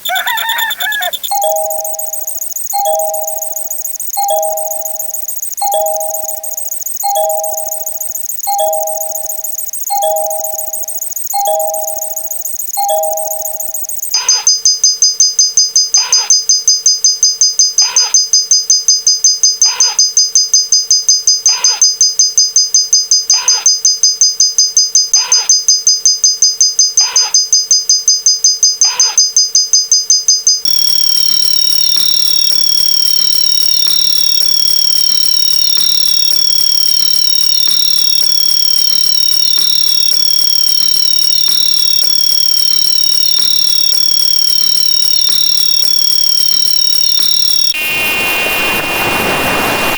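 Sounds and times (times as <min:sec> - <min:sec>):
steady high alarm tone: 0:00.0 - 0:29.4, 0:30.6 - 0:49.9
high two-tone alarm beeping: 0:00.0 - 0:49.9.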